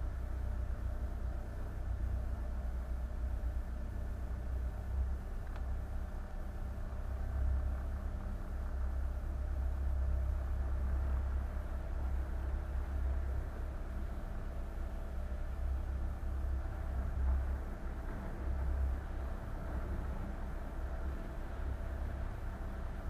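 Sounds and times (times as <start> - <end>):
boat engine rumbling: 0.0 - 23.0.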